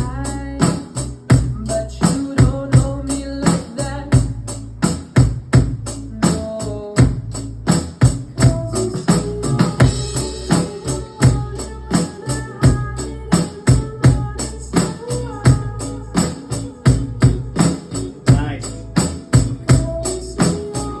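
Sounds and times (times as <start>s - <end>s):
drum kit playing a beat: 0.0s - 21.0s
recorded song: 0.0s - 21.0s.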